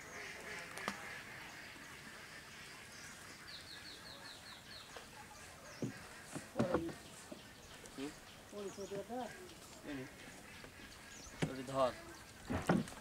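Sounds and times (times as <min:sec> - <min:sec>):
bird calling: 0:00.0 - 0:13.0
quiet pond-side ambience: 0:00.0 - 0:13.0.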